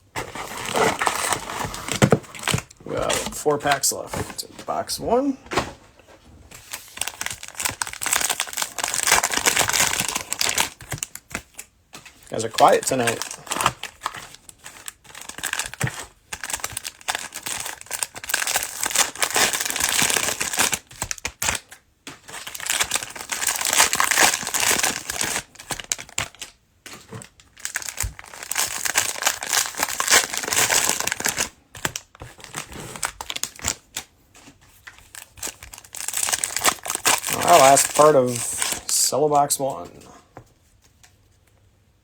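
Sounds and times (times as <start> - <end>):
cellophane wrappers tearing and crinkling: 0.2 - 4.4, 6.6 - 34.1, 34.8 - 39.1.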